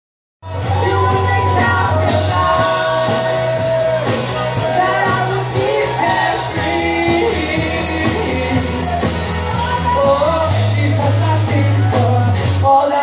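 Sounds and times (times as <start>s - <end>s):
bass line: 0.4s - 13.0s
drums: 0.4s - 13.0s
worship band playing: 0.4s - 13.0s
lead vocal singing: 0.5s - 13.0s.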